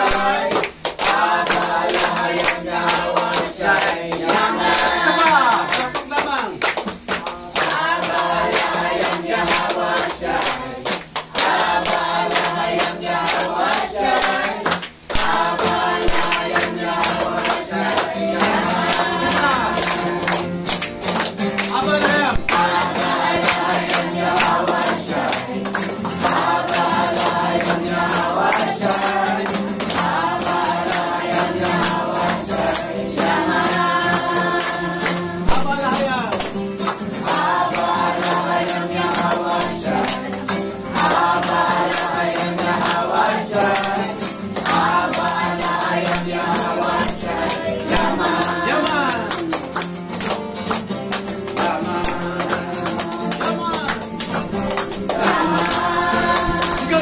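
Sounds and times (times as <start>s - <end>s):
congregation singing: 0.0s - 57.0s
people clapping to beat: 0.0s - 57.0s.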